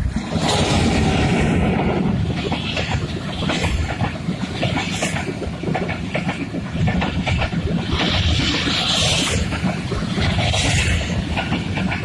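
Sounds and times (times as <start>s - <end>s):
train coaches rumbling past: 0.0s - 12.0s.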